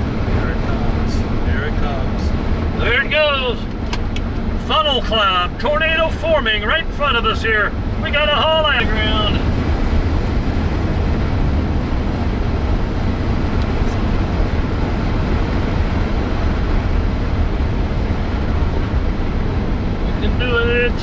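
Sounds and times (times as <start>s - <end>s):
vehicle driving on paved road: 0.0s - 21.0s.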